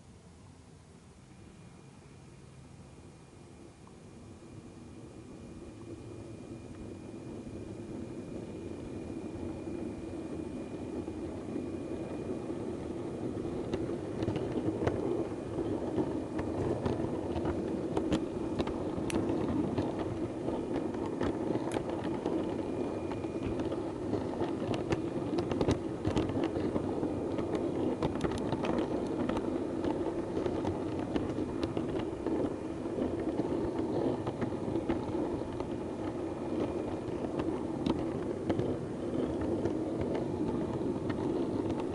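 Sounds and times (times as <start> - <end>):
model train humming: 0.0 - 41.9
wheels clicking over points: 5.0 - 41.9.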